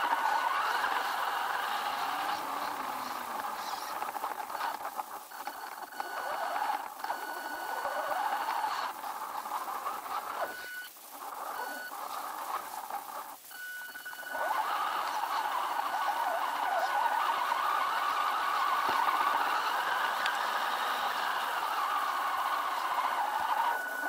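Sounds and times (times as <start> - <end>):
high thin whine: 0.0 - 24.0
toy truck motor whining: 0.0 - 24.0.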